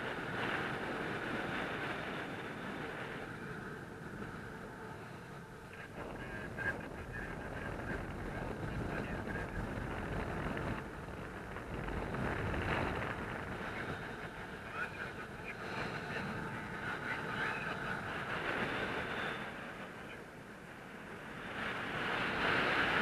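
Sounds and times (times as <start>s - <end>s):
faint high whine: 0.0s - 23.0s
wind rushing over microphone: 0.0s - 23.0s.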